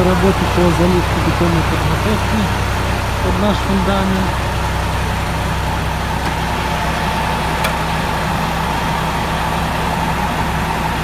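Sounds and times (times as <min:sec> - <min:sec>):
engine humming: 0:00.0 - 0:11.0
engine whine: 0:00.0 - 0:11.0.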